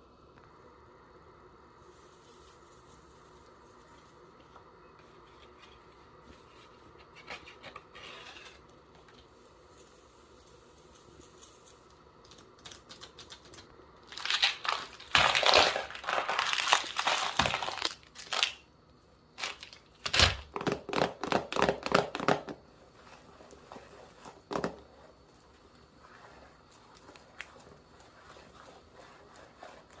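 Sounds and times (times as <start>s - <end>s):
crinkling and crackling: 2.0s - 18.7s, 19.3s - 30.0s.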